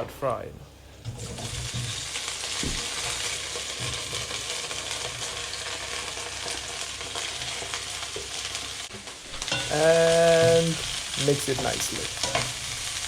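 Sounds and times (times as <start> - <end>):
vegetables sizzling in oil: 0.9 - 13.0.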